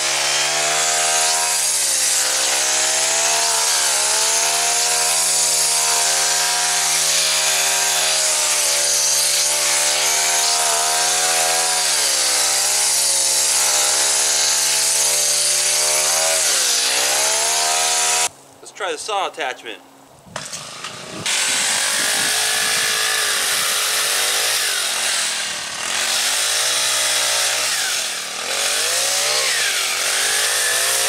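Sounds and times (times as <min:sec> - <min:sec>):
hedge trimmer engine cutting brambles: 0:00.0 - 0:18.3, 0:20.3 - 0:31.0.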